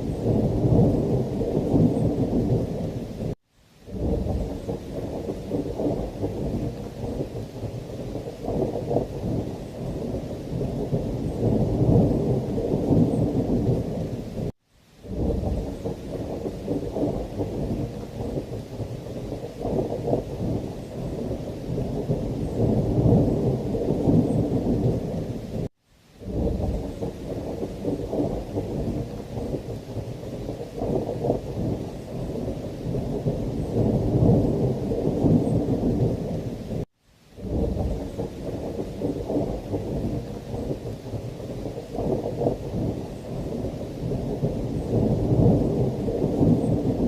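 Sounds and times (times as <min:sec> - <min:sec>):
heavy rain: 0:00.0 - 0:47.0
rolling thunder rumble: 0:00.0 - 0:47.0.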